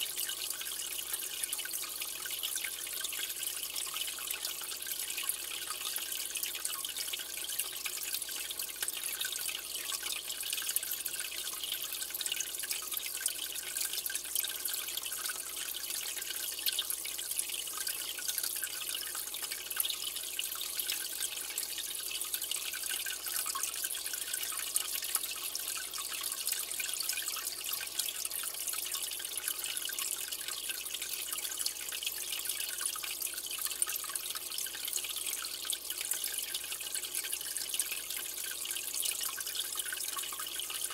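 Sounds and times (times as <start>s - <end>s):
aquarium water trickling: 0.0s - 40.9s.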